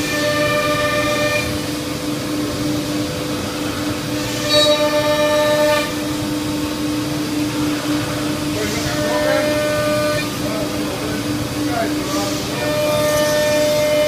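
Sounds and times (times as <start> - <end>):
router machine whine: 0.0 - 14.0.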